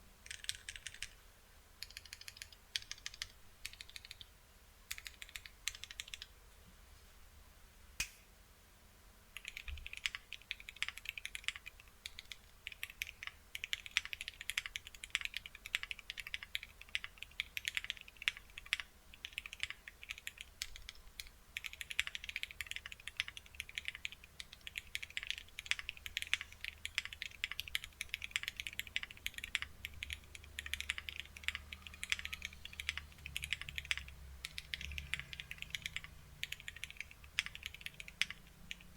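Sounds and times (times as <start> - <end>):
mechanical keyboard typing: 0.2 - 1.2, 1.8 - 4.3, 4.9 - 6.3, 9.4 - 38.9.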